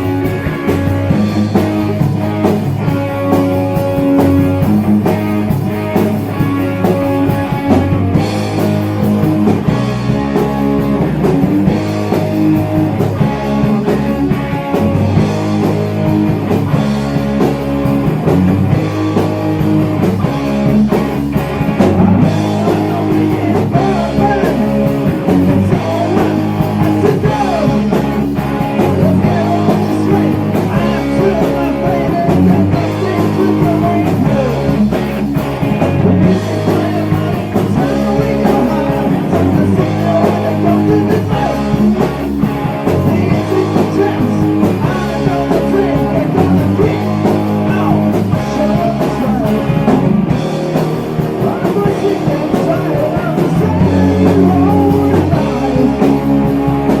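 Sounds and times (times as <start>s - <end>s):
heavy metal band playing: 0.0s - 57.0s.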